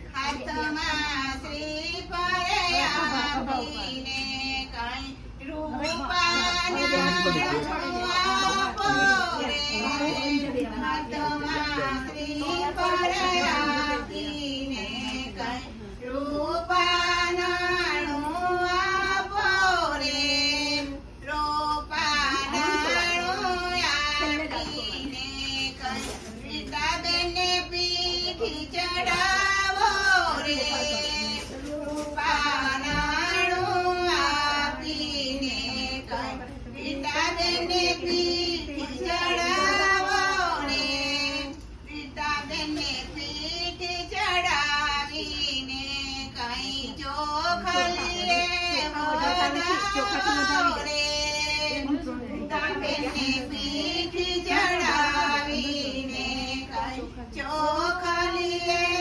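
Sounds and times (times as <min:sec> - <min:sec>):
woman singing: 0:00.0 - 0:59.0.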